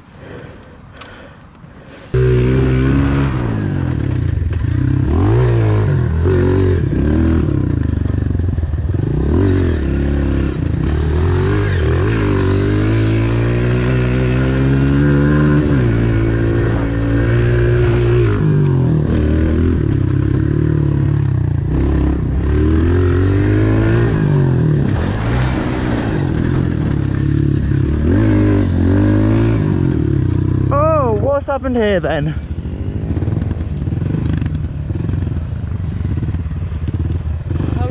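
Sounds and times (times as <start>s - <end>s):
motorcycle engine revving: 2.1s - 37.9s.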